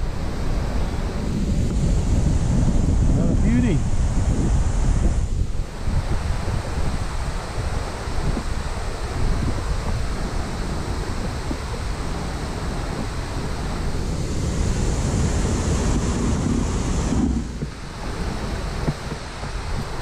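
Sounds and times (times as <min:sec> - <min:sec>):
bright hiss: 0:00.0 - 0:20.0
river water rushing: 0:00.0 - 0:20.0
wind buffeting microphone: 0:00.0 - 0:20.0.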